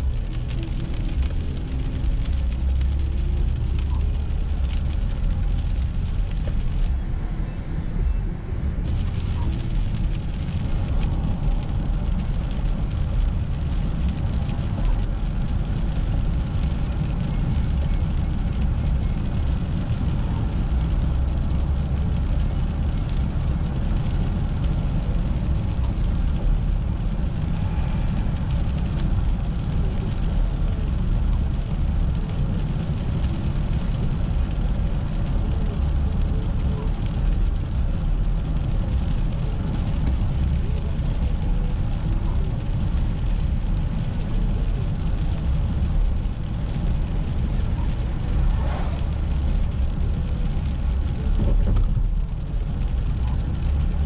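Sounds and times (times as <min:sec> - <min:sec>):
car driving on wet road: 0:00.0 - 0:54.0.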